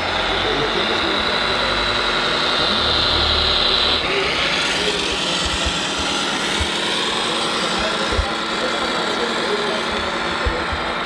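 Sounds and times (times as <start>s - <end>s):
high steady whine: 0.0s - 11.0s
mechanical whir: 0.0s - 11.0s.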